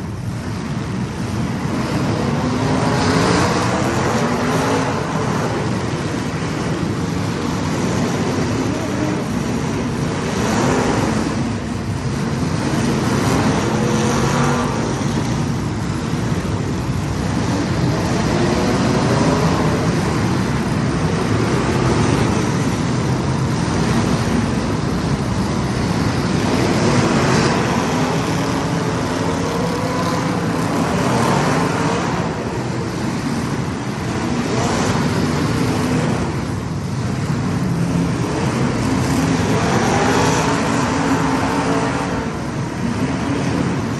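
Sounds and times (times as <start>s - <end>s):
race car engines passing: 0.2s - 43.9s.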